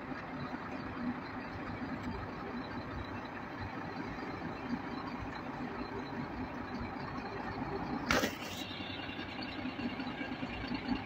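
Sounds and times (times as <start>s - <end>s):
lorry diesel engine under load: 0.0s - 11.0s.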